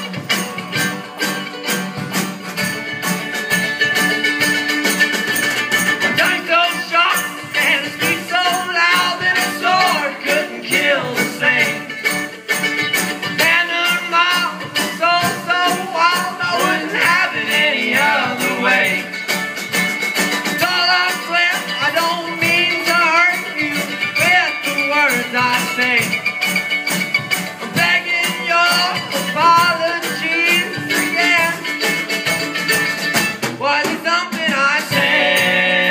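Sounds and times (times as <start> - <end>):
acoustic guitar: 0.0 - 35.9
banjo: 0.0 - 35.9
drum kit: 0.0 - 35.9
mandolin: 0.0 - 35.9.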